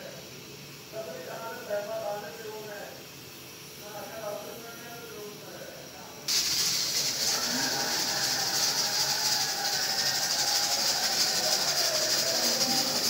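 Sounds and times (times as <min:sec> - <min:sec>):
pressure cooker venting steam: 0:00.0 - 0:13.0.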